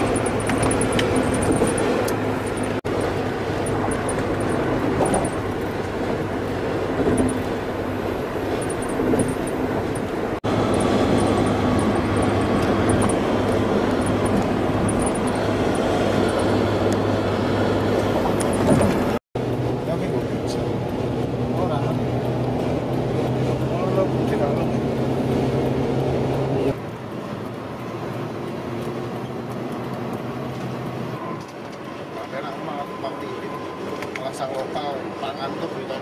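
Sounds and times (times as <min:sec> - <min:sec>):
car road noise from inside: 0:00.0 - 0:36.0.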